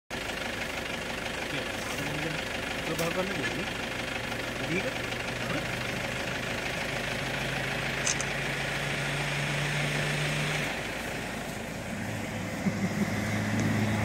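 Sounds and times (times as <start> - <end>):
vehicle engine idling: 0.1 - 14.0.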